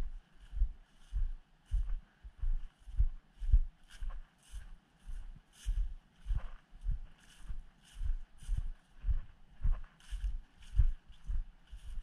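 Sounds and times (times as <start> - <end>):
footsteps crunching on ground: 0.0 - 12.0.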